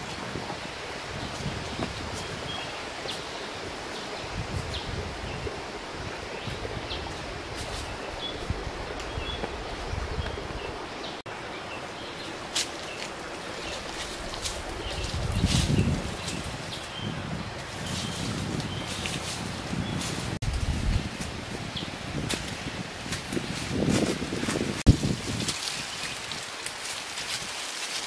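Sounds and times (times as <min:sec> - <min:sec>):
wind buffeting microphone: 0:00.0 - 0:11.2, 0:12.5 - 0:27.7
rustles: 0:00.0 - 0:28.0.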